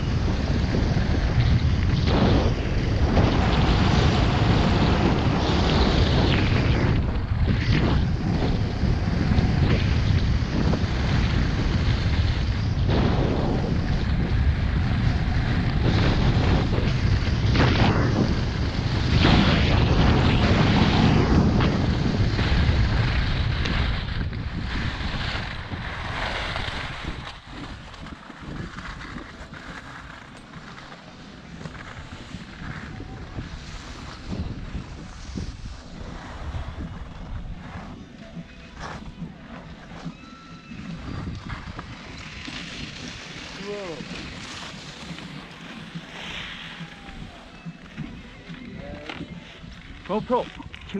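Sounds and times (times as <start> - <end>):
skis scraping over snow: 0.0 - 50.9
wind buffeting microphone: 0.0 - 50.9.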